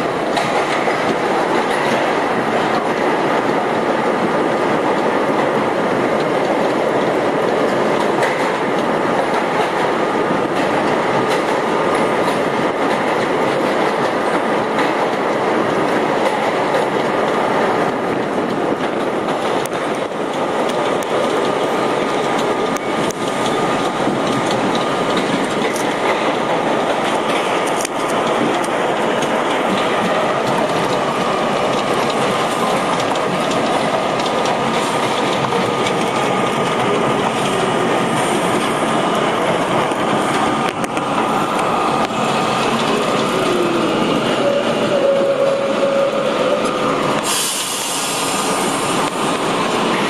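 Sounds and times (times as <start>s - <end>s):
steel wheels clattering on rails: 0.0s - 50.0s
subway train rumbling in tunnel: 0.0s - 50.0s.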